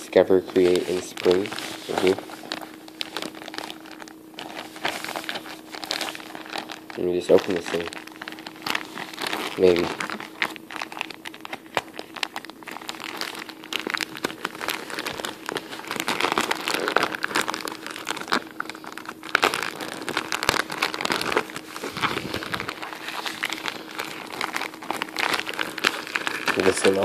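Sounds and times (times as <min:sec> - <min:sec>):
plastic mailer bag crinkling: 0:00.0 - 0:27.0.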